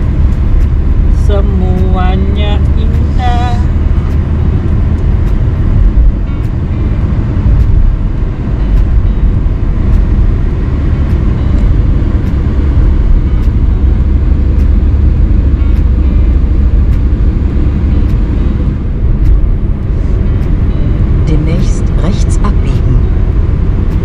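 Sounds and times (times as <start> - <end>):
road and tyre noise in car: 0.0 - 24.0.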